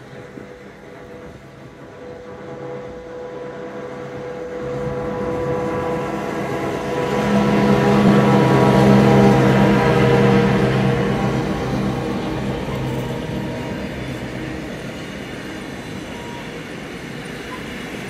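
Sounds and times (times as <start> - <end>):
locomotive low hum: 0.0 - 18.0.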